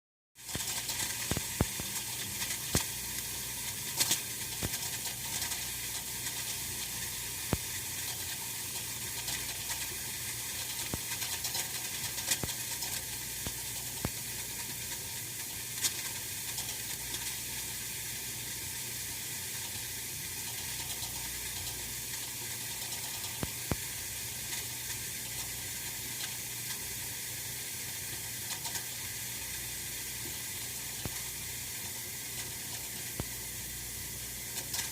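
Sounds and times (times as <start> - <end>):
heater hissing: 0.4 - 34.9
heater ticks and crackles: 0.4 - 34.9.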